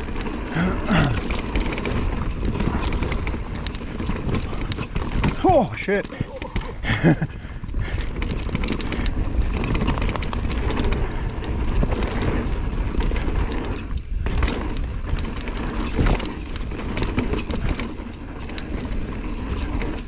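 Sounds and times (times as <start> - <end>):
bike rattling and knocking: 0.0 - 20.0
bike tyres rumbling over dirt: 0.0 - 20.0.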